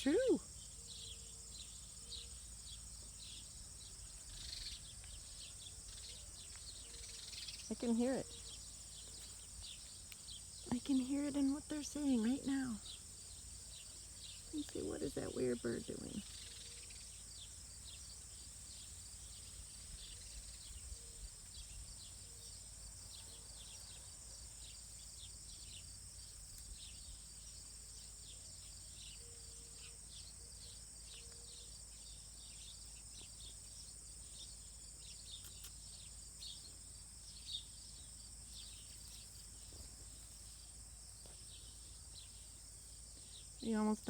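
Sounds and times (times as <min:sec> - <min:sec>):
high insect drone: 0:00.0 - 0:44.0
small birds chirping: 0:00.0 - 0:44.0.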